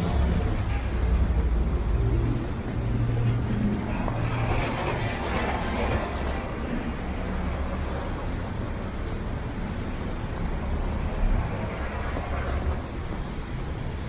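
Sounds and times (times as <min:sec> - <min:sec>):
city traffic passing: 0:00.0 - 0:14.0.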